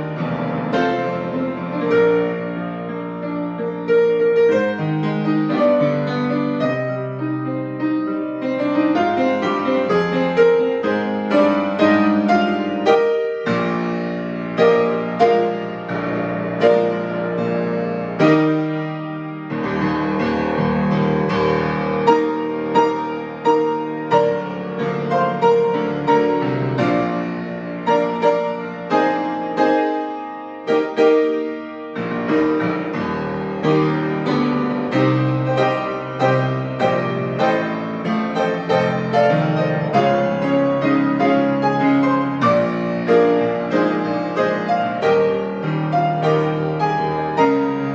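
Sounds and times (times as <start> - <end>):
solo piano hymn: 0.0 - 47.9.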